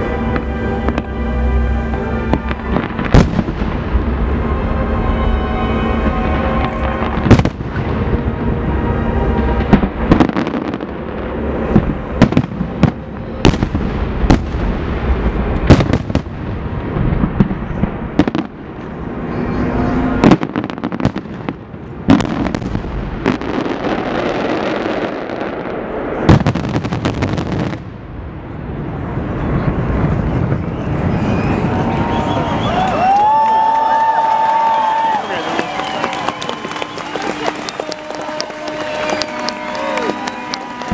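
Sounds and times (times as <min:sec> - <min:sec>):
fireworks bangs: 0:00.0 - 0:40.9
fireworks rumble and crackle: 0:00.0 - 0:40.9.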